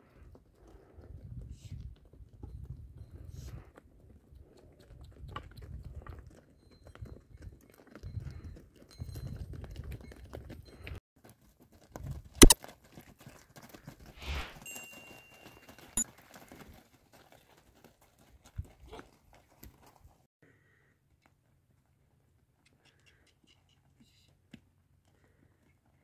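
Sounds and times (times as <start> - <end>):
hooves on stony ground: 0.0 - 20.3, 24.0 - 26.0.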